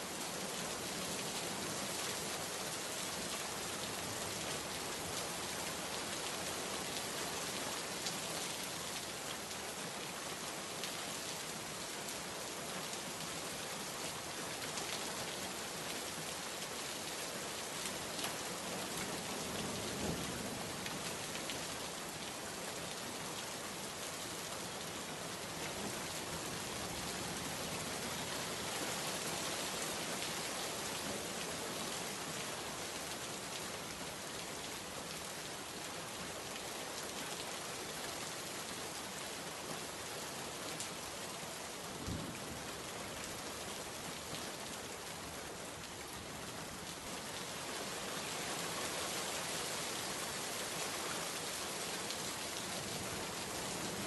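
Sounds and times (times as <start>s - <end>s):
steady rain on hard surfaces: 0.0s - 54.0s.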